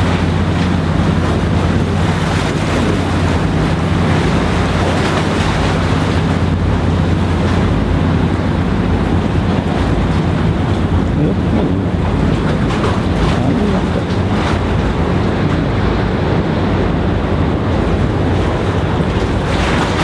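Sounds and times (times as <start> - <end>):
low steady hum: 0.0 - 20.0
sea waves against a breakwater: 0.0 - 20.0.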